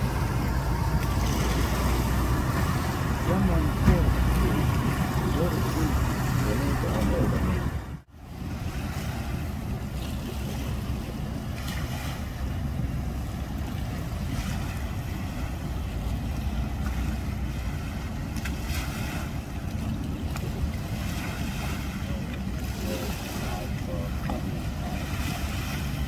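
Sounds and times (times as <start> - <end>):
steady low rumble: 0.0 - 26.0
water washing around ramp: 0.0 - 26.0.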